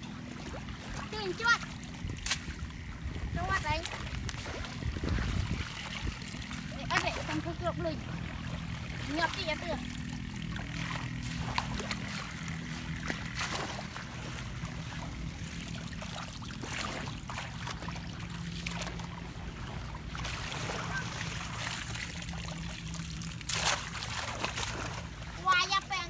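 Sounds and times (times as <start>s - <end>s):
low steady hum: 0.0s - 26.0s
water splashing and trickling: 0.0s - 26.0s.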